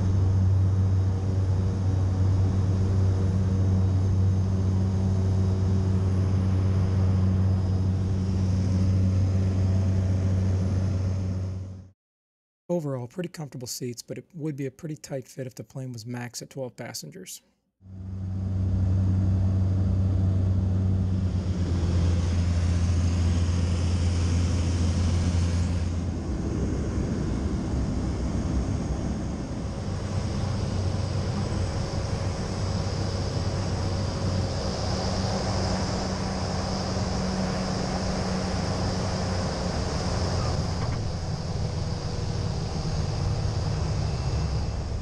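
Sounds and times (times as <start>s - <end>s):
turboprop engine droning: 0.0s - 11.9s, 17.8s - 45.0s.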